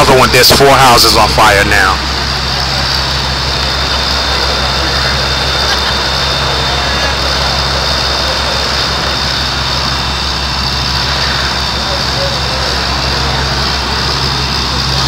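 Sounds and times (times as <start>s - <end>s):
fire engine pump droning: 0.0s - 15.0s
water spray hissing: 2.0s - 15.0s.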